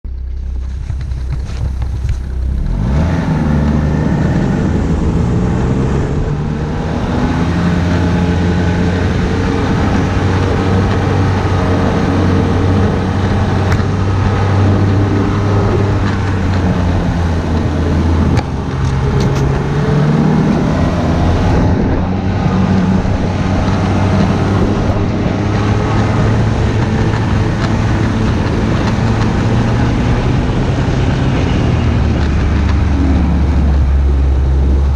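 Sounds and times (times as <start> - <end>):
snowmobile engine running: 0.1 - 34.9.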